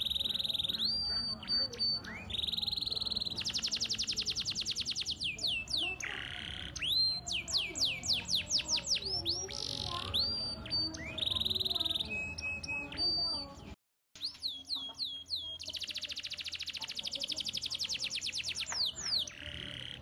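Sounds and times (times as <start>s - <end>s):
canary singing: 0.0s - 20.0s.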